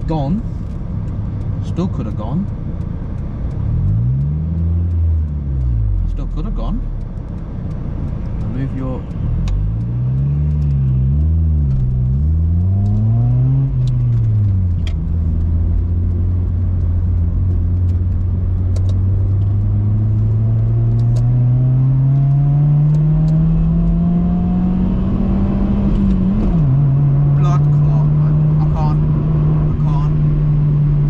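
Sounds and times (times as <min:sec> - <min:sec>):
car engine revving through exhaust: 0:00.0 - 0:31.0.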